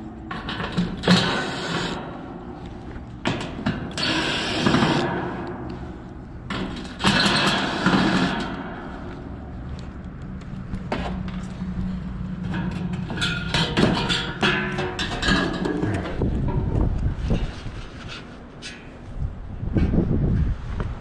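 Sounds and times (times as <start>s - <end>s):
metal clanking and scraping: 0.0s - 9.9s, 10.7s - 19.1s
steady low hum: 0.0s - 21.0s.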